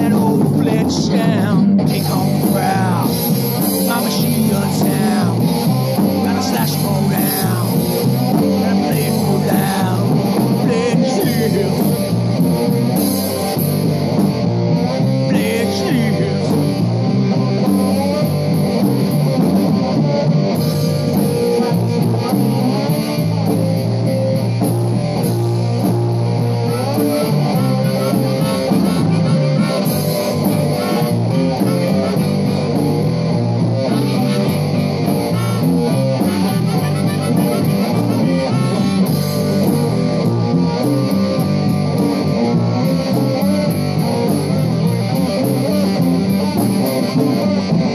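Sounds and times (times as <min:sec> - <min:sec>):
bass guitar: 0:00.0 - 0:47.9
drums and cymbals: 0:00.0 - 0:47.9
electric guitars: 0:00.0 - 0:47.9.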